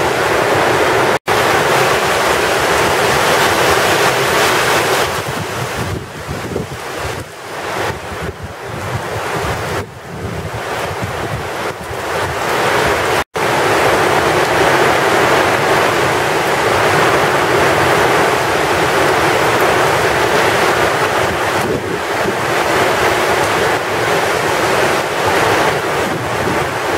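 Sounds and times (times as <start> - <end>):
heavy rain pouring: 0.0 - 26.9
wind gusting on microphone: 0.0 - 26.9.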